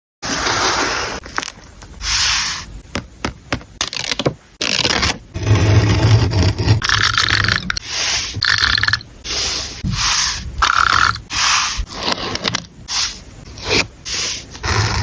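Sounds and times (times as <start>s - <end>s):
paper scraping and rubbing: 0.2s - 2.7s, 3.8s - 8.6s, 9.2s - 15.0s.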